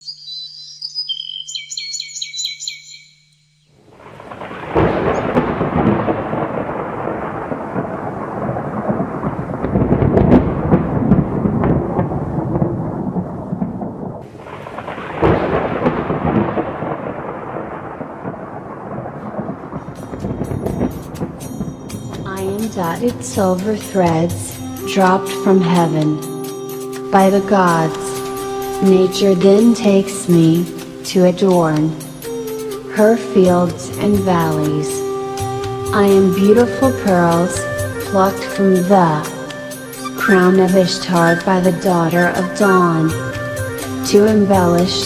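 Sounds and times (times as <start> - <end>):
thunder rumbling: 3.8 - 45.0.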